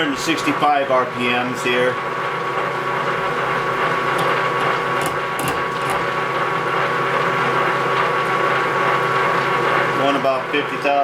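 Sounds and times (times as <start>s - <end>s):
lathe mechanical whine: 0.0s - 11.0s.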